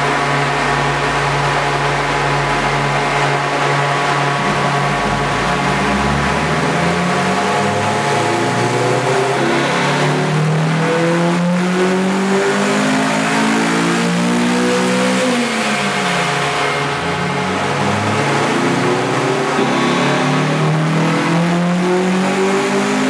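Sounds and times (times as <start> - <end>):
engine at full throttle: 0.0 - 23.0.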